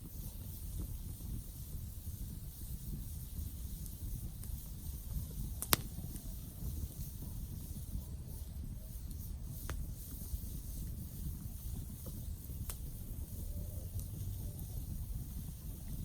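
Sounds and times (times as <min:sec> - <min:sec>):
campfire flames rumbling: 0:00.0 - 0:16.0
wood crackles: 0:00.1 - 0:16.0.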